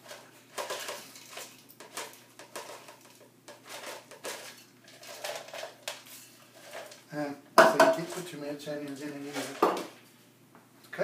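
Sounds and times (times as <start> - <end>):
fried onions rustling and tapping: 0.0 - 10.0.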